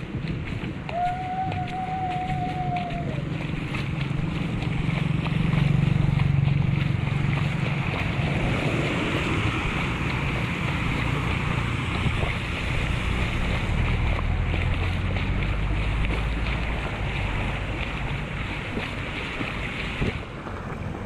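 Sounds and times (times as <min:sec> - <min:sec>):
low engine hum: 0:00.0 - 0:21.0
tyres splashing through water: 0:00.0 - 0:21.0
wind on microphone: 0:00.0 - 0:21.0.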